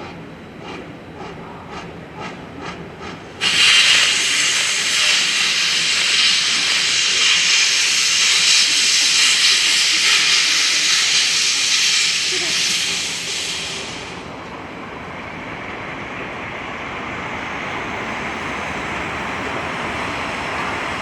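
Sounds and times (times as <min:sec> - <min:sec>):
steam locomotive exhaust beats: 0:00.0 - 0:21.0
steam venting hiss: 0:03.4 - 0:21.0.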